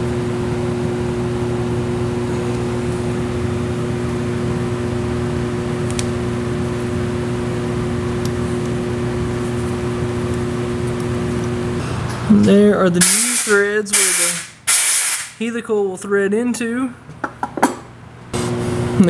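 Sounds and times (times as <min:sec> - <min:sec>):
machine hum with fan noise: 0:00.0 - 0:19.0.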